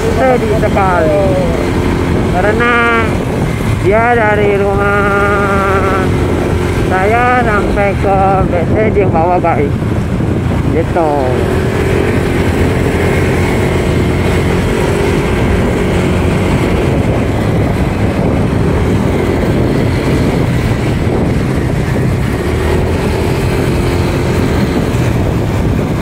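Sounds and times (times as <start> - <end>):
motorcycle engine droning: 0.0 - 26.0
road noise: 0.0 - 26.0
wind rush: 0.0 - 26.0.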